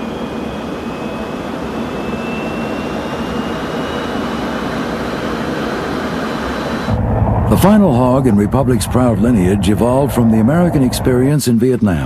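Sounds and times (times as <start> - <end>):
thin rising whine: 0.0 - 11.2
jet engine rushing: 0.0 - 12.0.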